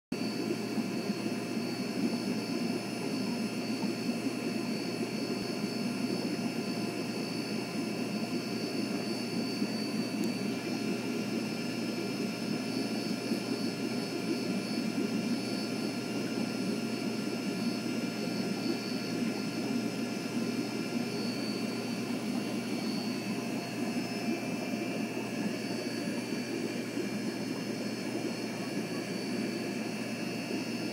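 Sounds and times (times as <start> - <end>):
aquarium equipment humming: 0.1 - 30.9
faint high whining tones: 0.2 - 30.9.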